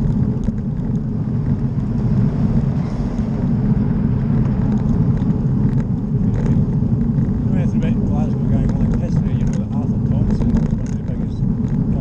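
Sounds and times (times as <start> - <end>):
bicycle tyres on tarmac: 0.0 - 12.0
wind buffeting microphone: 0.0 - 12.0.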